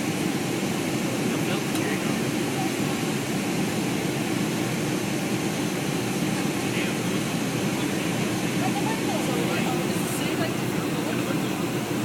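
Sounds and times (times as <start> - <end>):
jet engine and airflow noise: 0.0 - 12.0.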